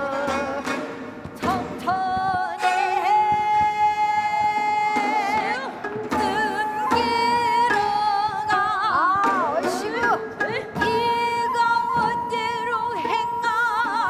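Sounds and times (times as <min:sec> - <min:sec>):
drum strokes: 0:00.0 - 0:13.9
woman singing folk song: 0:00.0 - 0:14.0.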